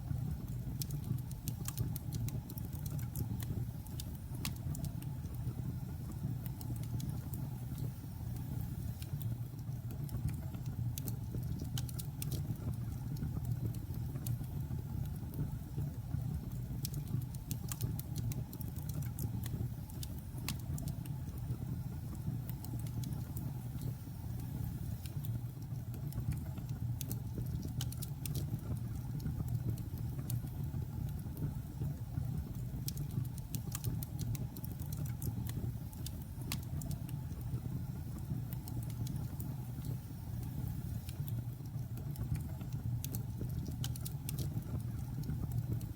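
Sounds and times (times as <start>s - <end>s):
fire crackling and popping: 0.1s - 45.9s.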